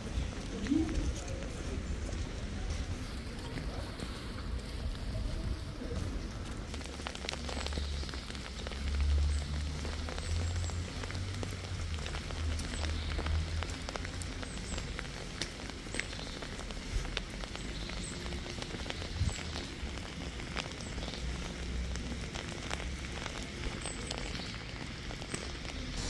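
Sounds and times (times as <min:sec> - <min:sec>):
rain on cobblestones: 0:00.0 - 0:26.0.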